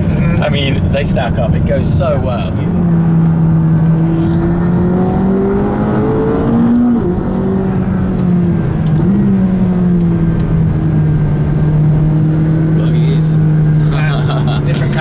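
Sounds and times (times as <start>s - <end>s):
car engine from inside cabin: 0.0s - 15.0s
road rumble: 0.0s - 15.0s.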